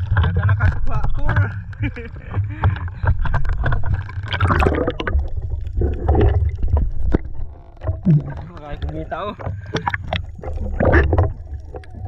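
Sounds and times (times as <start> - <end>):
crackly clicks: 0.0 - 12.0
water sloshing and gurgling: 0.0 - 12.0.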